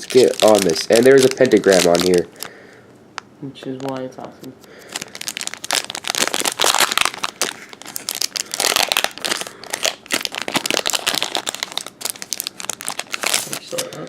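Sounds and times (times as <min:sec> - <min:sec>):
foil wrapper tearing and crinkling: 0:00.0 - 0:02.6, 0:04.7 - 0:14.0.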